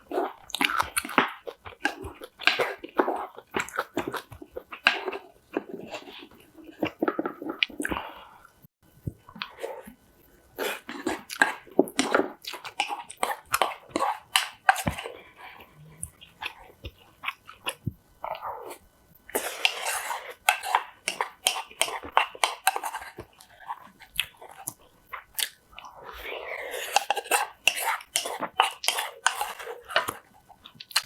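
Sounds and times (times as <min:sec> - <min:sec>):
crunchy chewing: 0:00.0 - 0:08.5, 0:10.6 - 0:31.0.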